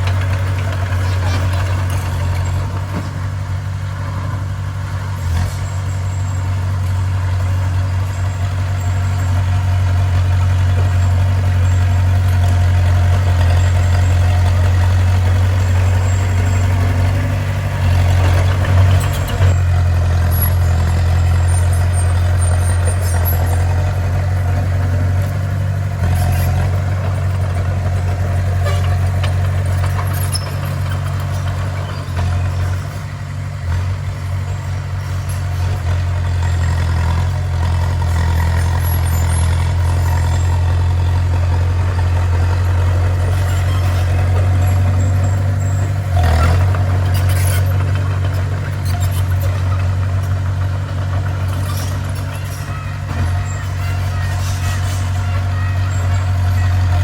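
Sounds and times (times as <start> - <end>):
bulldozer diesel engine drone: 0.0 - 57.0.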